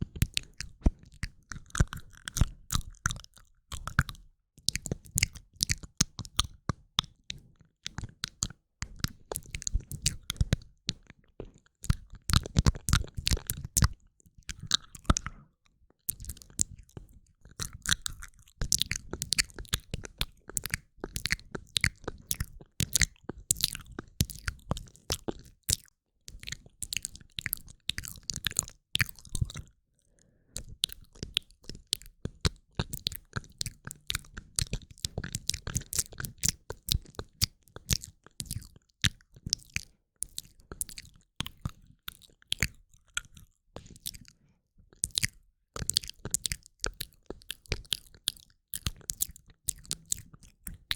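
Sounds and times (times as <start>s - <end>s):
wet mouth clicks and lip smacks: 0.2s - 15.4s, 16.0s - 29.7s, 30.6s - 50.9s.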